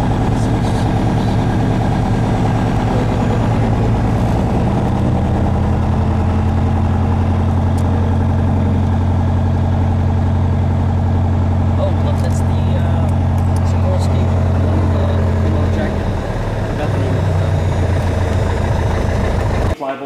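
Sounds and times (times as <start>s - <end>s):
vehicle engine drone from cabin: 0.0s - 19.8s.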